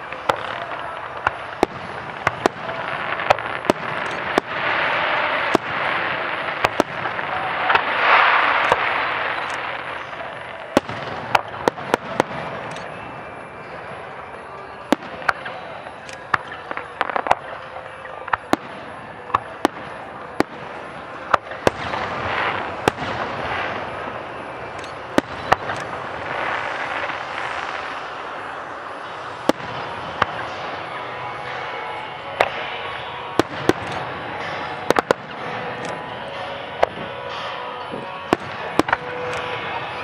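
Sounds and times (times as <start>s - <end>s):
steady rushing noise: 0.0s - 17.8s, 18.5s - 40.0s
fireworks bangs: 0.0s - 40.0s.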